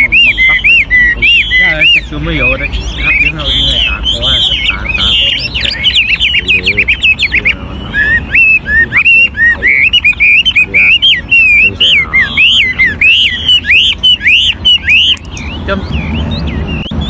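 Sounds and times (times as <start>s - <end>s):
caged bird singing whistled phrases: 0.0s - 17.0s.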